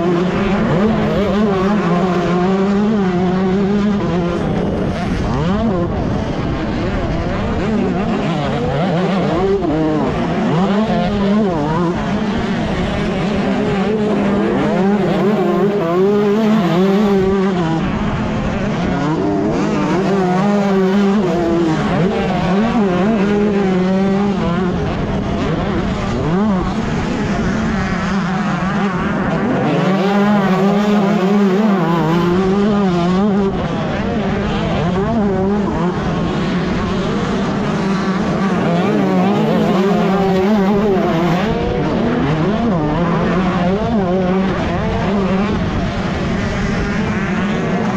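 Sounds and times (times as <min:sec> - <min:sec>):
motocross bike engine racing: 0:00.0 - 0:47.9.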